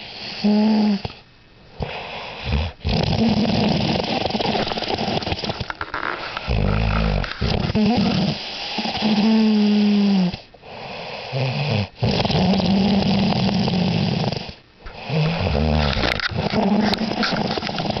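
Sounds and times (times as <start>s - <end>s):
dog snoring: 0.0s - 1.2s, 1.8s - 18.0s.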